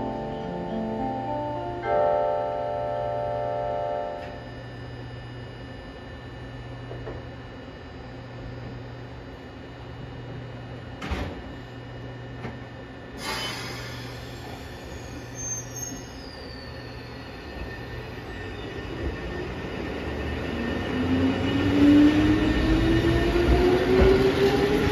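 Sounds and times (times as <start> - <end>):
electric railcar hum: 0.0 - 24.9.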